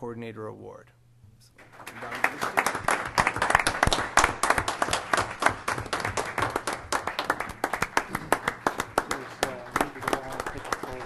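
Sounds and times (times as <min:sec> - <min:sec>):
people applauding: 0:01.6 - 0:11.0.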